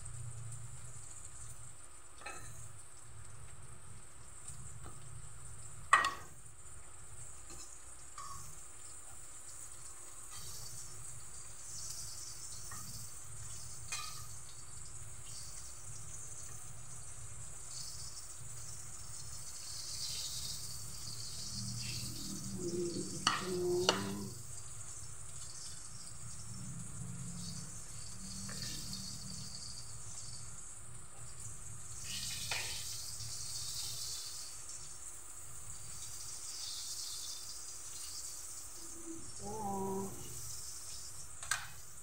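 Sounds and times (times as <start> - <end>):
meat frying in hot oil: 0.0 - 42.0.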